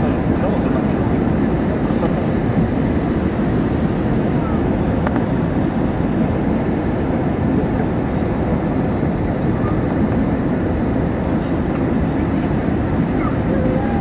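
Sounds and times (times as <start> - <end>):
jet engines and airflow in cabin: 0.0 - 14.0.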